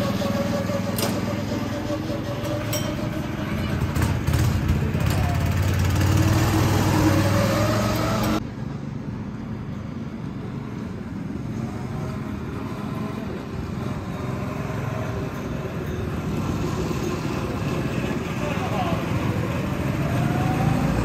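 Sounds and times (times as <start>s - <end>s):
go-kart engines revving: 0.0s - 8.4s, 11.5s - 21.0s.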